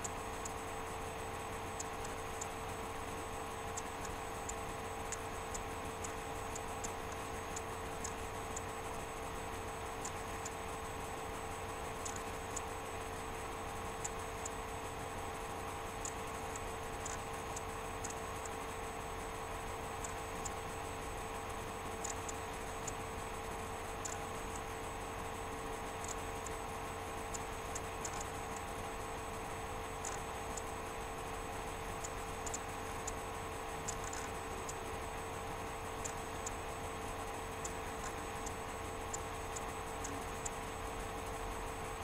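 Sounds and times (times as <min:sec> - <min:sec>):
faint high ticks: 0:00.0 - 0:41.9
electrical hum: 0:00.0 - 0:42.0.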